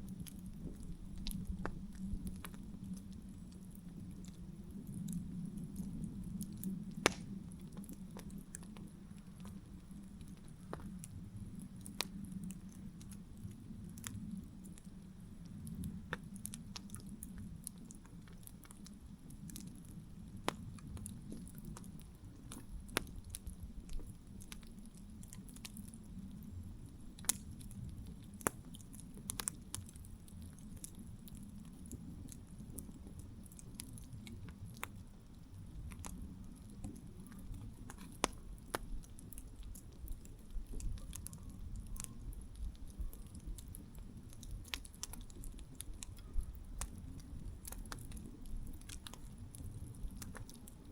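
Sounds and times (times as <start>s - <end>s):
campfire flames rumbling: 0.0s - 50.9s
wood crackling and popping: 0.0s - 50.9s.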